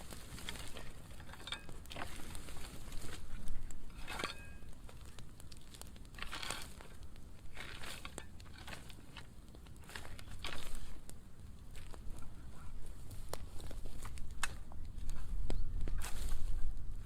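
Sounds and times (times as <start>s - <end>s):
fire crackling: 0.0s - 17.0s
fire hissing flare-ups: 0.0s - 17.0s
fire popping: 0.0s - 17.0s.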